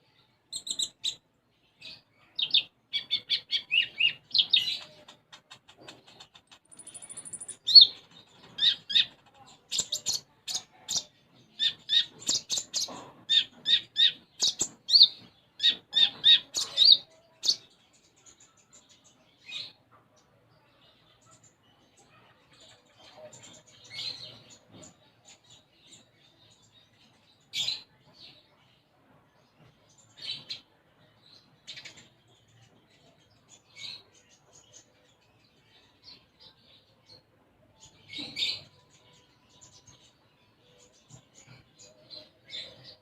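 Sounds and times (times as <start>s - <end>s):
songbird chirping: 0.0s - 43.0s.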